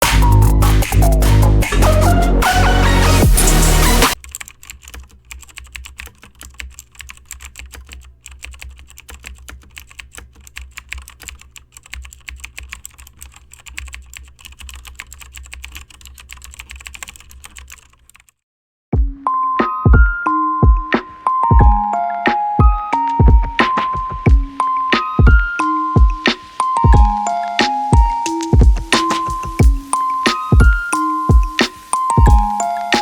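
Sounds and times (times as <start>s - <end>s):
keyboard typing: 0.0s - 18.4s, 22.3s - 33.0s.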